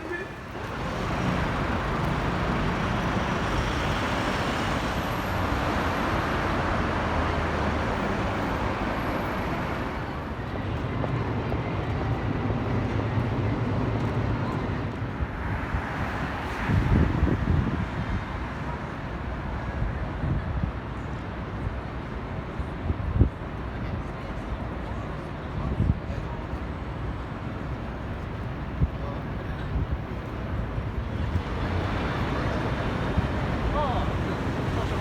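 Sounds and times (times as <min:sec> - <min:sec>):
passing cars: 0:00.0 - 0:23.5, 0:25.6 - 0:35.0.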